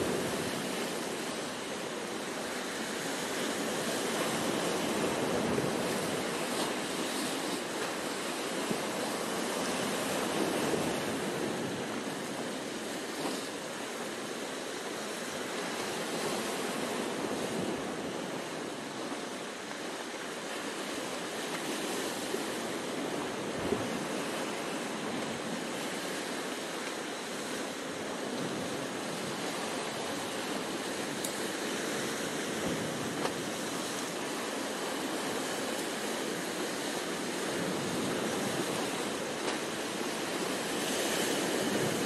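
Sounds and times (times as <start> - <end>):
sea surf breaking on rocks: 0.0 - 42.0.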